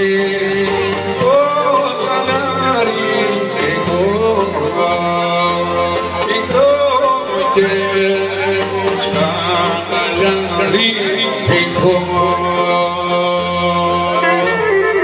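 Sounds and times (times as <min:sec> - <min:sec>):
ornamented folk melody: 0:00.0 - 0:15.0
percussion beat: 0:00.0 - 0:15.0
steady bass notes: 0:00.0 - 0:15.0.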